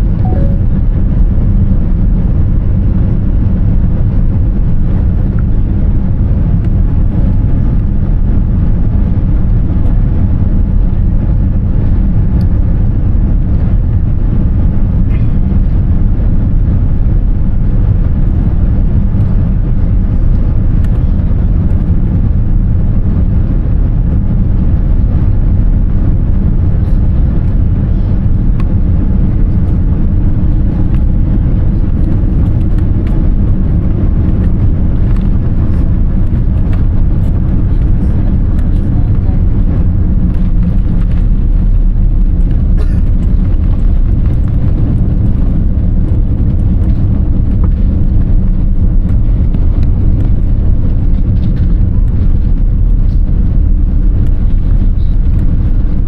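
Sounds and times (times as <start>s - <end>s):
airliner cabin low rumble: 0.0s - 56.0s.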